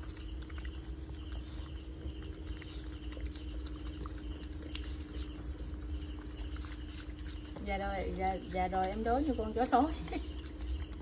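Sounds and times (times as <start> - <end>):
faint insect chirping: 0.0 - 11.0
puppy eating from a bowl: 0.0 - 11.0
steady low hum: 0.0 - 11.0.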